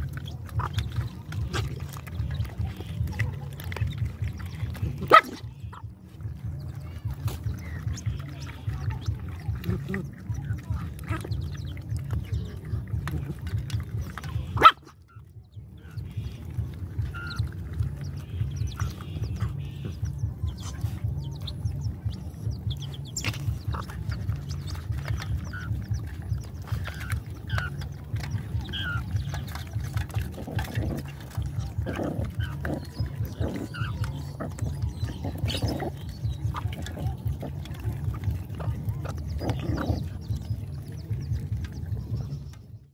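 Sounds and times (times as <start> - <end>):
chicks peeping: 0.0 - 42.8
dogs chomping from metal bowl: 0.0 - 42.9.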